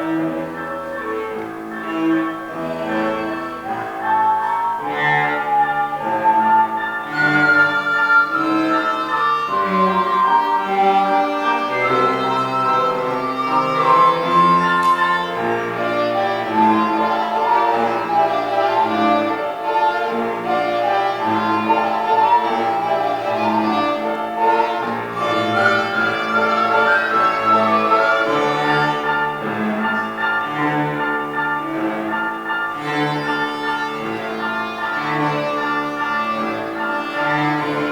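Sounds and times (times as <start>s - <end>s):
cello bass line: 0.0s - 32.2s
violin melody: 0.0s - 37.9s.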